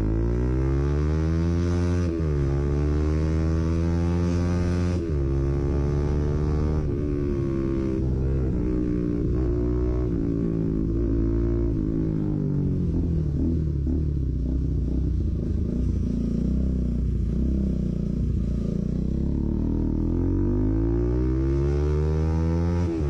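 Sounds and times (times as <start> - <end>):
motorcycle engine running loud: 0.0 - 23.0.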